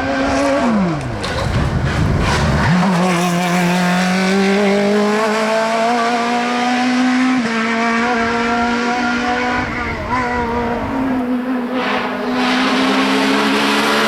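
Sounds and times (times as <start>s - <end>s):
race car engine at high revs: 0.0s - 14.0s.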